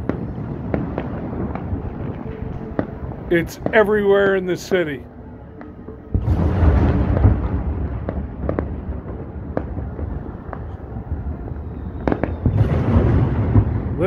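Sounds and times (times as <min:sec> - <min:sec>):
sharp firework cracks: 0:00.0 - 0:04.4, 0:05.6 - 0:14.0
rumble of firework bangs: 0:00.0 - 0:04.8, 0:05.5 - 0:14.0.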